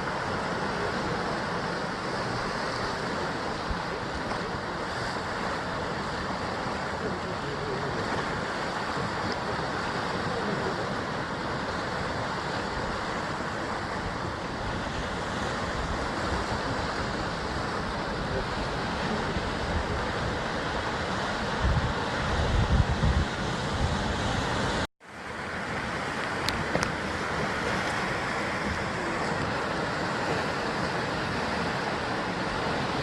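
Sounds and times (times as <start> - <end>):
waves washing against rocks: 0.0 - 33.0.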